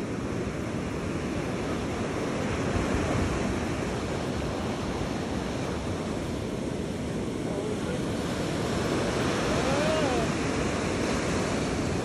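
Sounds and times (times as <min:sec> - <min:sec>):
ocean surf breaking on sand: 0:00.0 - 0:12.0.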